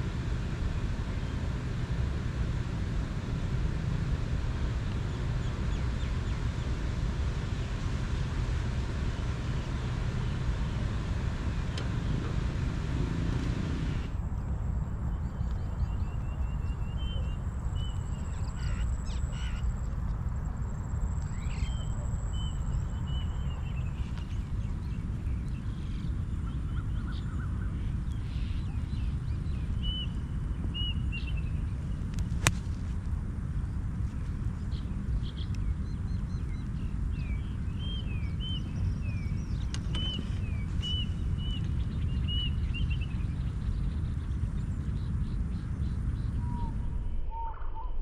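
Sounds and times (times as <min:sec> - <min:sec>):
steady low rumble: 0:00.0 - 0:48.0
birds chirping: 0:05.0 - 0:32.6, 0:33.6 - 0:47.9.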